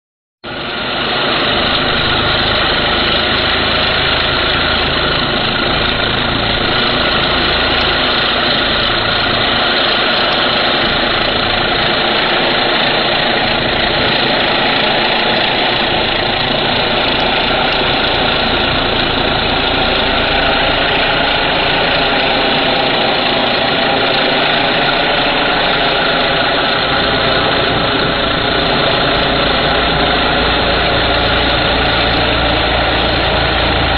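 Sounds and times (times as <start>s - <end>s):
continuous water spray hiss: 0.5s - 33.9s
pressure washer engine running: 0.5s - 33.9s.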